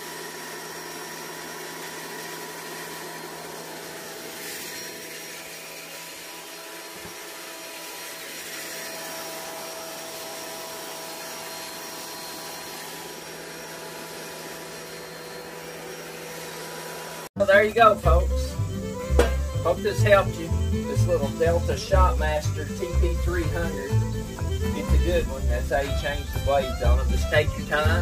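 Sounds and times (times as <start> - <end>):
portable planer running: 0.0 - 28.0.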